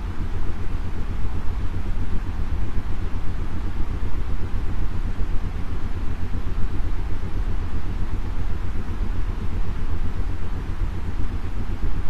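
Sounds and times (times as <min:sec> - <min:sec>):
white noise rumble and hiss: 0:00.0 - 0:12.0.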